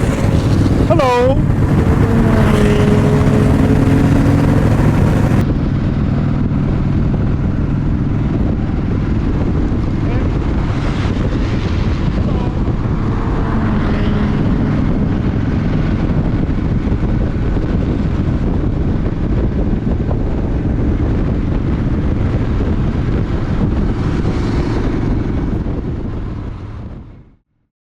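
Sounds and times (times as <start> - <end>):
vehicle engine and road noise: 0.0 - 27.4
wind buffeting microphone: 0.0 - 27.4.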